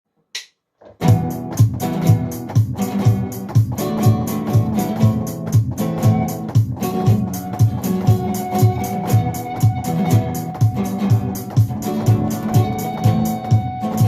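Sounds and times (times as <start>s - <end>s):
band playing guitars and bass: 1.0s - 14.0s.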